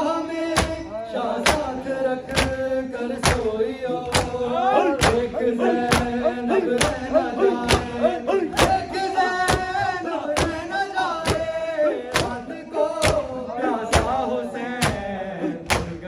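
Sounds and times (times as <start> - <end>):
men singing: 0.0 - 16.0
chest beating slaps: 0.5 - 16.0.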